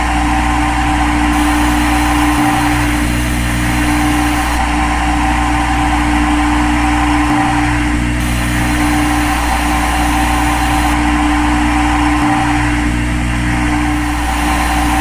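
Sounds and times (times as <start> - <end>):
machine humming with whine: 0.0 - 15.0.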